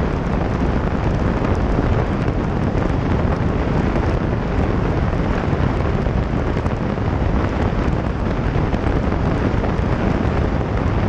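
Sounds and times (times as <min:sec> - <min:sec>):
motorcycle running: 0:00.0 - 0:11.0
wind buffeting microphone: 0:00.0 - 0:11.0.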